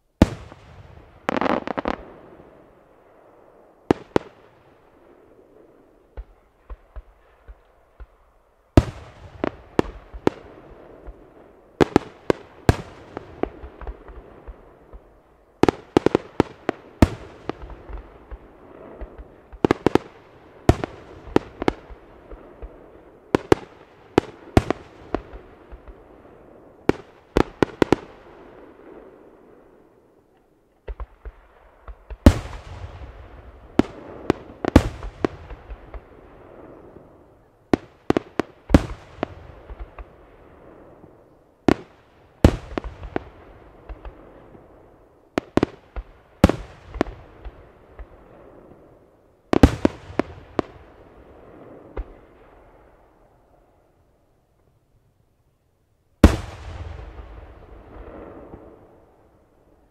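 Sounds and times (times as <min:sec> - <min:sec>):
fireworks bursting: 0:00.0 - 0:29.9, 0:30.8 - 0:52.9, 0:56.2 - 0:59.9.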